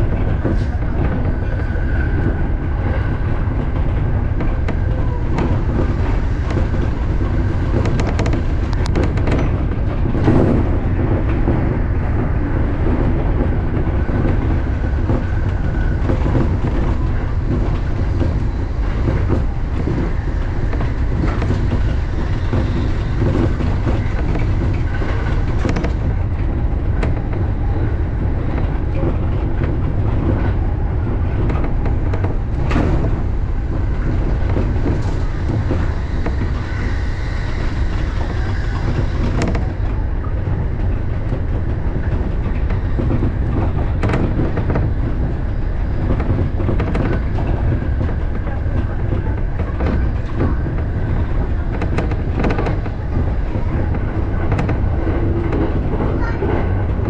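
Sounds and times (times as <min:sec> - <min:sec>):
train rumbling: 0:00.0 - 0:57.0
wheels clicking on track: 0:00.0 - 0:57.0.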